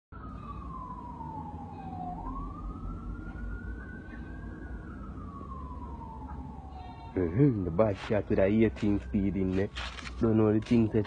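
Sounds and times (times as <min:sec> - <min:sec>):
siren wailing: 0:00.1 - 0:11.0.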